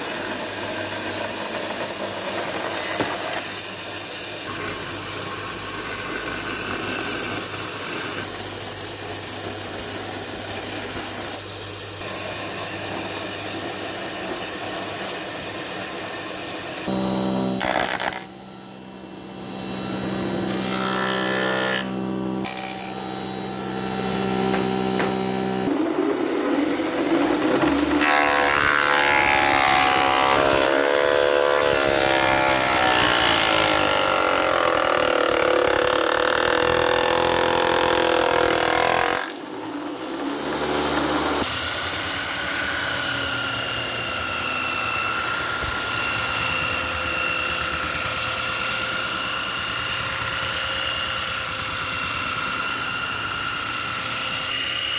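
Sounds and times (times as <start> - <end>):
electric power tool on wood: 0.0 - 54.9.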